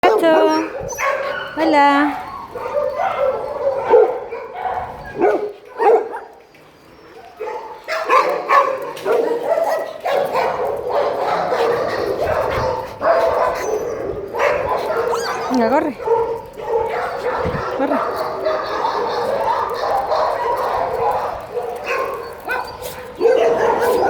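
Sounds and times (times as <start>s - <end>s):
dogs barking and whining: 0.0s - 24.0s.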